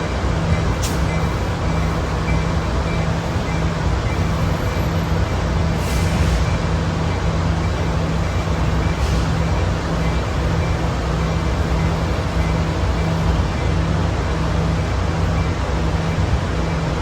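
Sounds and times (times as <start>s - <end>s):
constant hum: 0.0s - 17.0s
idling train rumble: 0.0s - 17.0s.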